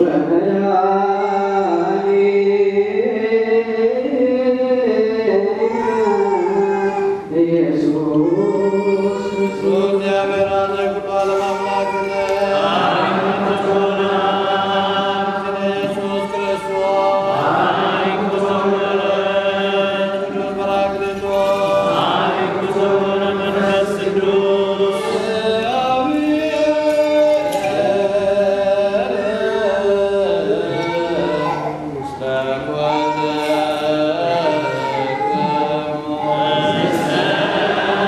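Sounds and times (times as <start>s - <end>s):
voices singing liturgical chant: 0.0s - 38.0s.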